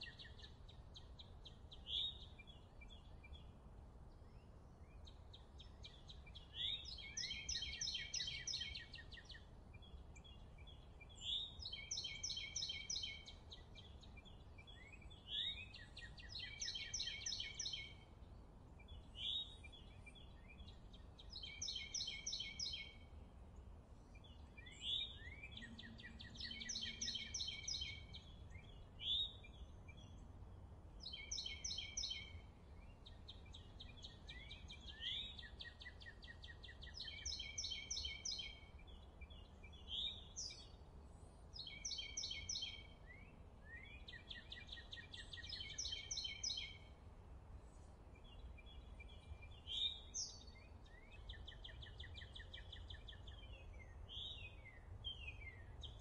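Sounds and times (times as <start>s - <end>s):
songbird singing with trill: 0.0s - 56.0s.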